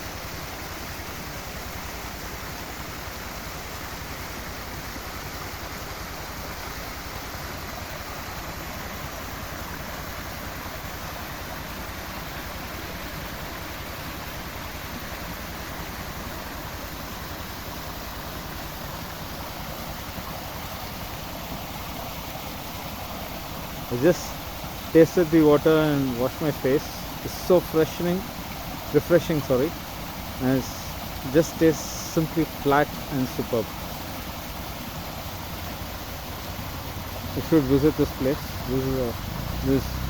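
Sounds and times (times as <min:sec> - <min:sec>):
stream splashing over rocks: 0:00.0 - 0:40.0.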